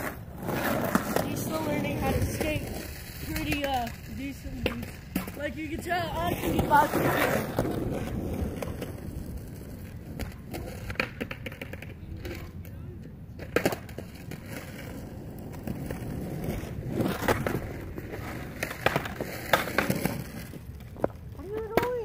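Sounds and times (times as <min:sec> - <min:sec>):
skateboard clacking on pavement: 0:00.0 - 0:22.0
skateboard rolling on concrete: 0:00.0 - 0:22.0.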